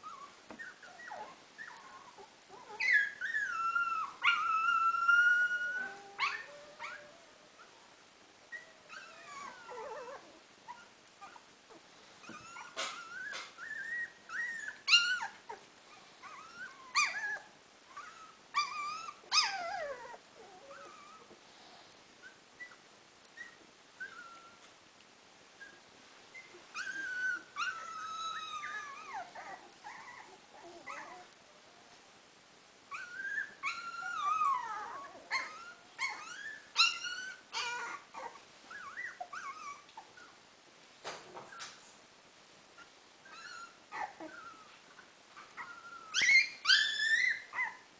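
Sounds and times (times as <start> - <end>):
puppies whimpering and squeaking: 0.0 - 7.8, 8.5 - 11.5, 12.2 - 21.3, 23.4 - 24.7, 25.6 - 31.4, 32.9 - 40.4, 42.8 - 47.9.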